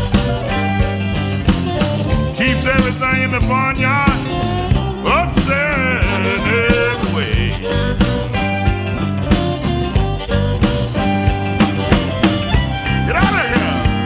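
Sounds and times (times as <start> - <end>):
bent guitar lead line: 0.0 - 14.0
electric blues band: 0.0 - 14.0.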